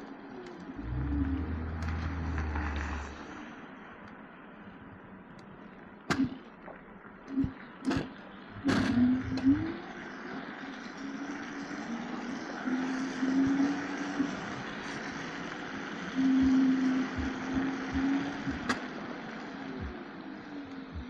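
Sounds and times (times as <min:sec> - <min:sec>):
street traffic: 0:00.0 - 0:21.0
steady low hum: 0:00.6 - 0:10.7, 0:12.1 - 0:21.0.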